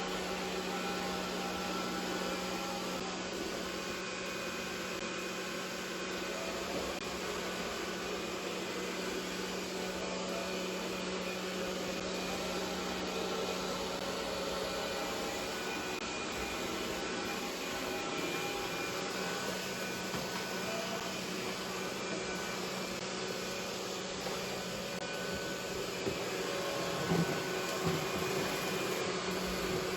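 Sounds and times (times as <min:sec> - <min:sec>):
robot vacuum cleaner running: 0:00.0 - 0:29.9.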